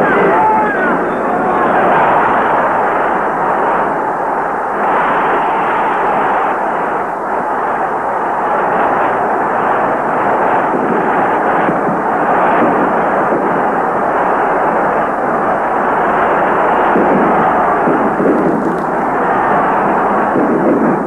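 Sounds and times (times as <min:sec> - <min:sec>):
stadium crowd cheering: 0:00.0 - 0:21.0.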